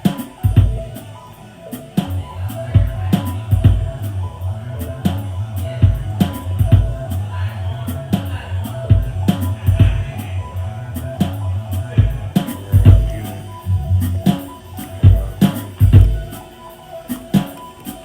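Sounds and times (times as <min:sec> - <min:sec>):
instrumental hip-hop beat: 0:00.0 - 0:18.0.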